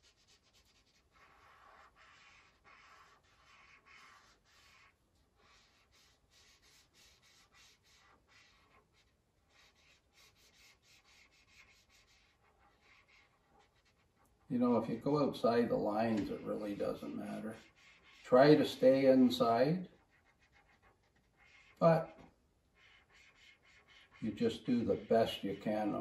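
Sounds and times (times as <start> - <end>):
marker scribbling on paper: 0.0 - 14.4, 15.6 - 26.0.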